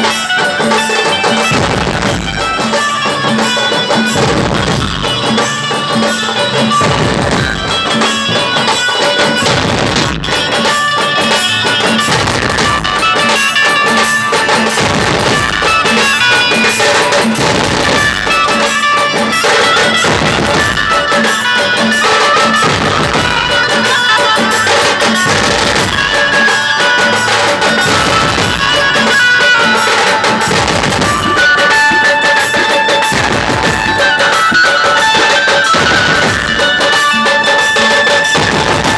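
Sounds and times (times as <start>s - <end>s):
drums beating: 0.0s - 38.9s
sustained melody line: 0.3s - 38.9s.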